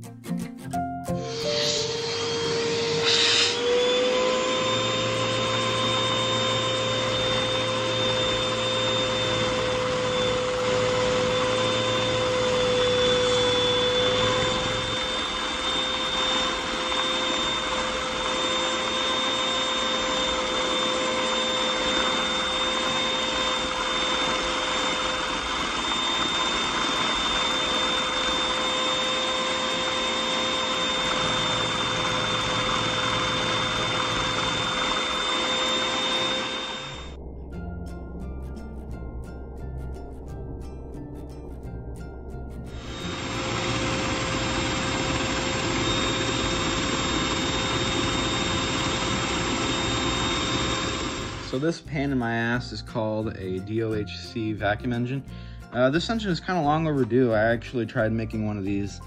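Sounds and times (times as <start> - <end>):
vacuum cleaner whining: 1.2 - 37.3, 42.7 - 54.9
low hum: 1.2 - 53.2.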